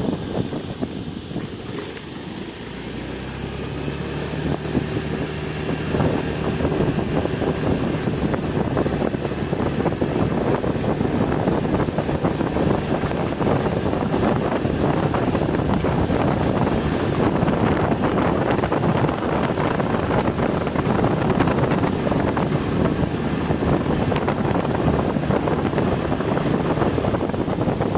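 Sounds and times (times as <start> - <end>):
engine running: 0.0 - 27.9
wind buffeting microphone: 0.0 - 27.9.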